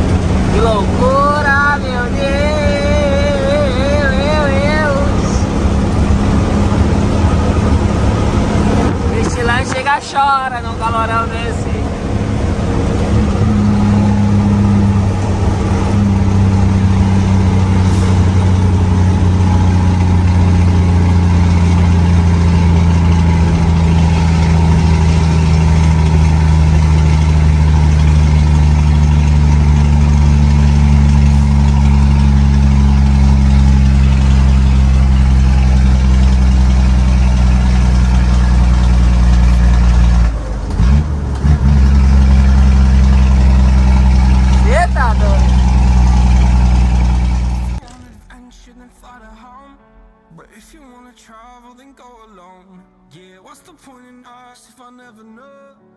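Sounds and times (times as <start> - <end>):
diesel truck engine running: 0.0 - 48.3.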